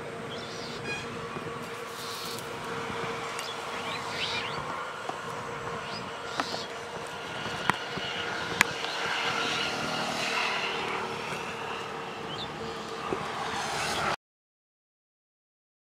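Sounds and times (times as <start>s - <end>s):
road traffic passing: 0.0s - 14.2s.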